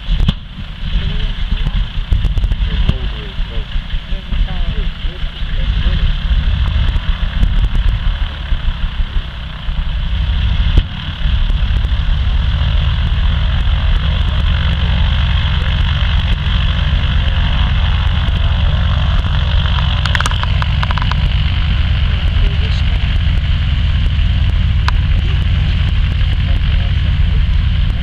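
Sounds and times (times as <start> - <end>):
radial piston engine sputtering: 0.6 - 28.0.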